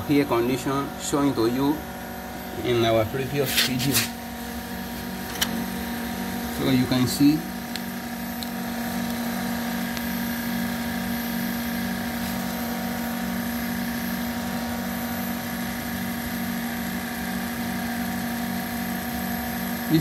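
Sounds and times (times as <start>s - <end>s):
compressor humming: 0.0s - 20.0s.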